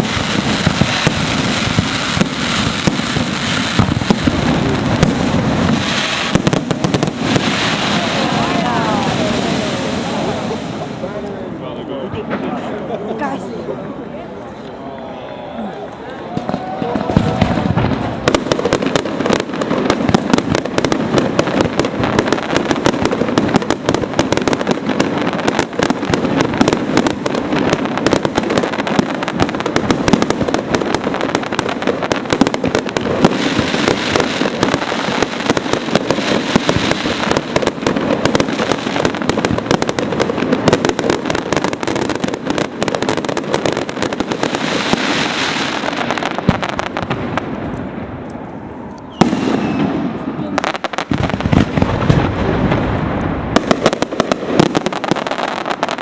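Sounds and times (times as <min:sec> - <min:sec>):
fireworks bursts and crackling: 0:00.0 - 0:56.0.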